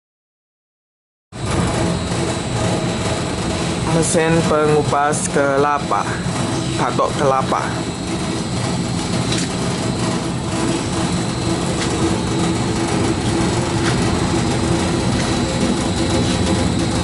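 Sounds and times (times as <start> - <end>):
machine motor humming: 1.4 - 17.0.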